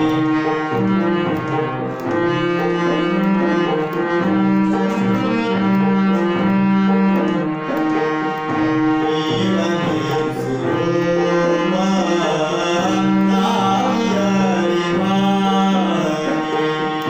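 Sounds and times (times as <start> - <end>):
harmonium playing held notes: 0.0 - 17.0.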